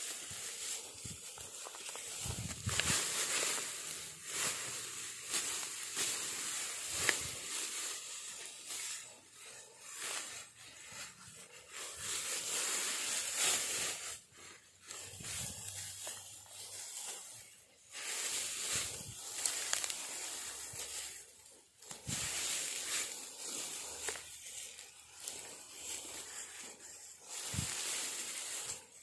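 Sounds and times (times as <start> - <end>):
dry rice stalks rustling: 0.0 - 29.0.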